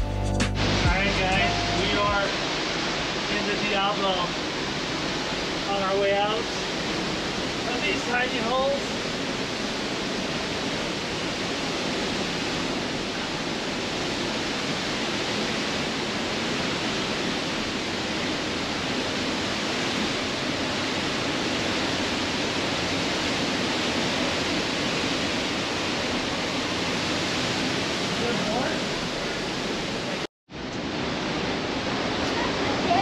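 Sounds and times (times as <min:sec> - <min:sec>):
waterfall rushing: 0:00.4 - 0:33.0.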